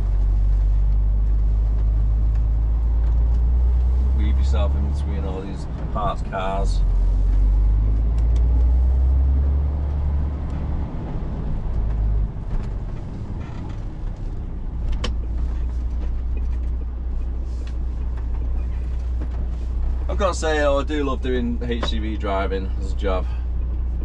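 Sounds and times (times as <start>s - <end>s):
truck diesel engine drone: 0.0s - 24.0s.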